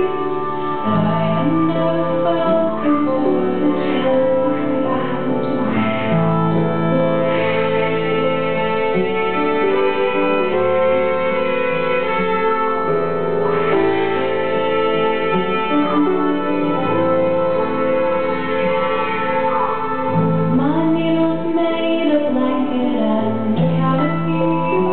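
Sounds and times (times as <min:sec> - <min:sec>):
folk band instrumental: 0:00.0 - 0:21.6
bowed violin sustained notes: 0:00.0 - 0:24.9.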